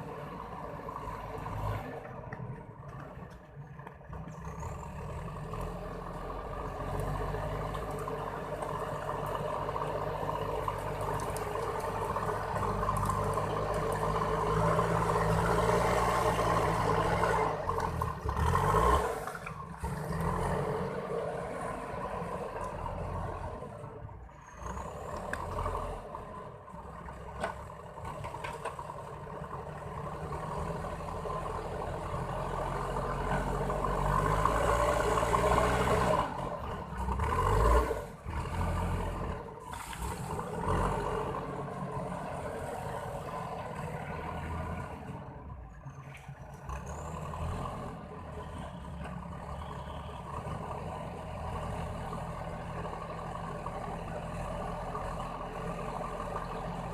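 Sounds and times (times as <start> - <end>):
diesel engine working: 0.0 - 56.9.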